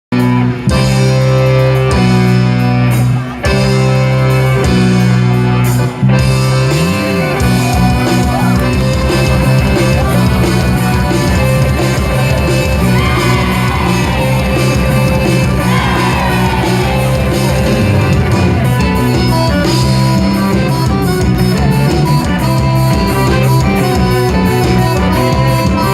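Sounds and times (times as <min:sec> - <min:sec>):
loud music with held chords: 0:00.1 - 0:25.9.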